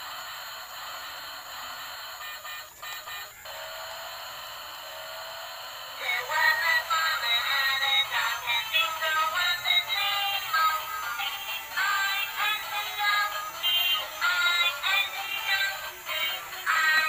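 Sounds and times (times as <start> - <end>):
tinny electronic toy melody: 0.8 - 17.0.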